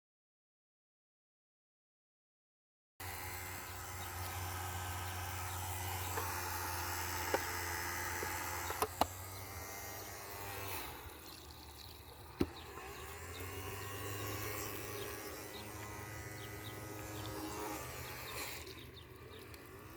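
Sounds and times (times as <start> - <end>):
robot vacuum motor hum: 3.0 - 19.9.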